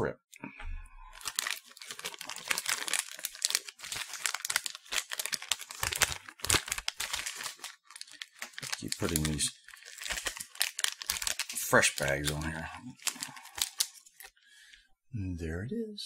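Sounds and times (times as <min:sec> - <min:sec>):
plastic wrapper crinkling and tearing: 0:01.1 - 0:14.4.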